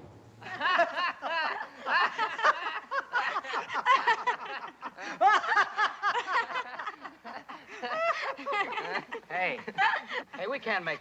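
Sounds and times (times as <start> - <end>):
people laughing: 0.4 - 11.0.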